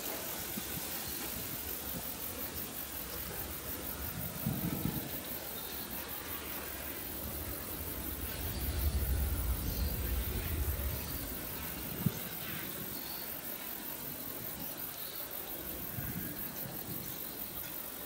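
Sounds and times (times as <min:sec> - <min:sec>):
freight train rumbling: 0:00.0 - 0:14.7
insects chirring: 0:00.0 - 0:18.0.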